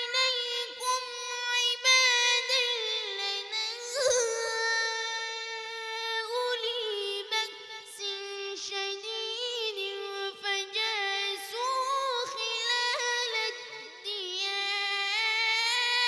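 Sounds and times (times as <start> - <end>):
high voice chanting recitation: 0.0 - 16.0.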